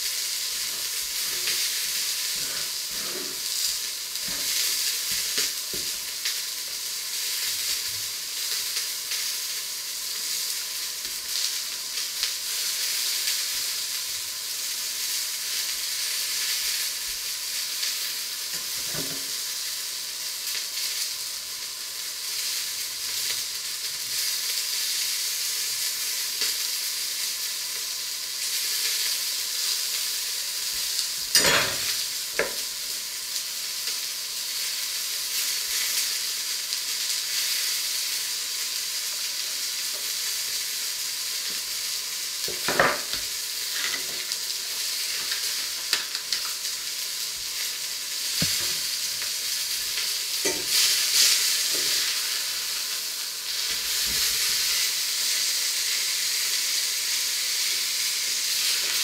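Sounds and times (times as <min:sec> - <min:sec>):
food sizzling in a pan: 0:00.0 - 0:59.0.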